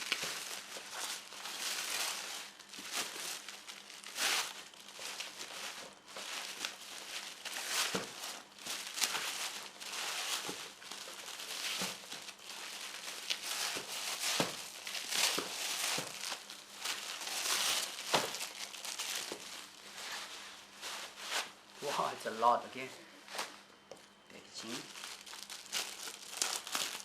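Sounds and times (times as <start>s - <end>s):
packaging crinkling and rustling: 0.0s - 23.6s, 24.6s - 27.0s.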